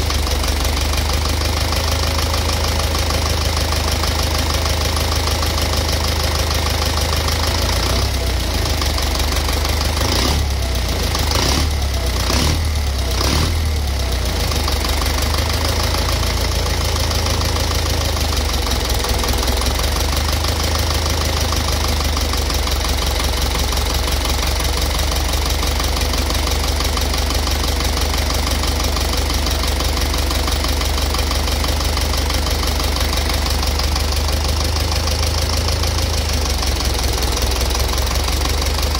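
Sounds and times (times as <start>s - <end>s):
engine idling with rapid knock: 0.0s - 38.9s.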